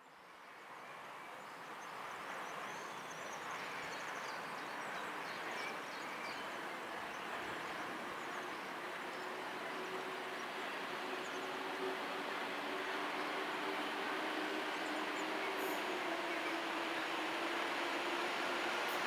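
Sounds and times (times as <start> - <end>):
electric trains rushing on rails: 0.8 - 19.0.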